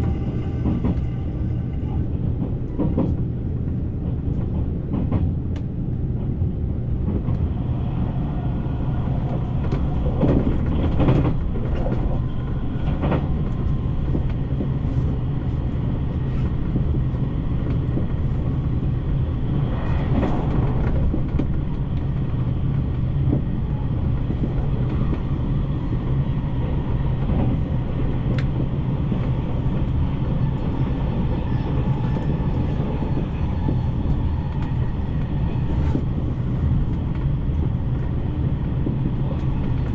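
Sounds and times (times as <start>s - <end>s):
electric train rumbling: 0.0s - 39.9s.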